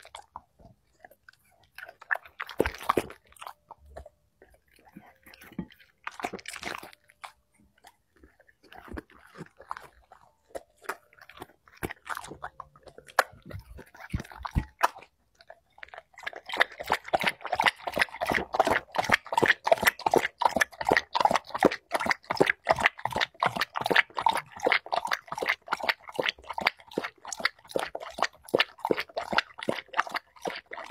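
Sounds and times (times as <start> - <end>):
dog crunching and chewing: 0.0 - 30.9
dog lapping wet food: 0.0 - 30.9.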